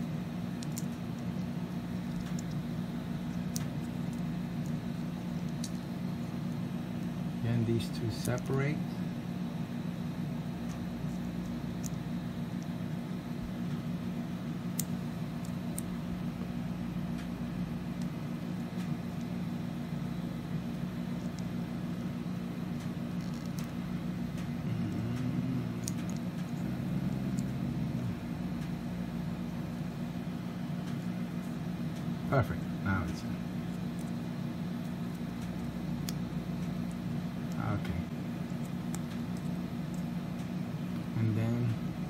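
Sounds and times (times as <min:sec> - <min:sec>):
low room hum: 0:00.0 - 0:42.0.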